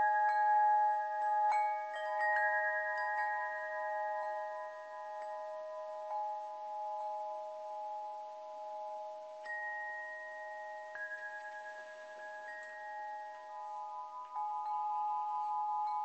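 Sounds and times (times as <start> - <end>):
bell-like chimes ringing: 0.0 - 16.0.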